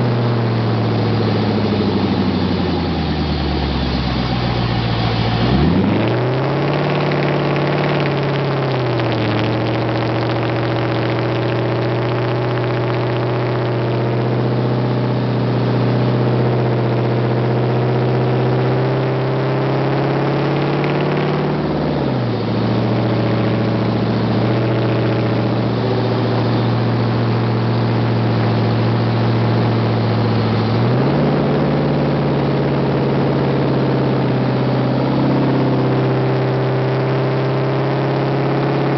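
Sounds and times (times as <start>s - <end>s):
loud car engine revving: 0.0s - 38.9s.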